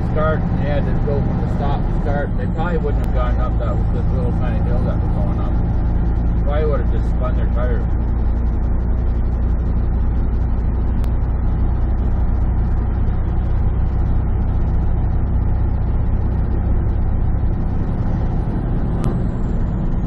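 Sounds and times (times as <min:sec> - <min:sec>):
diesel truck engine droning: 0:00.0 - 0:20.0
road noise: 0:00.0 - 0:20.0.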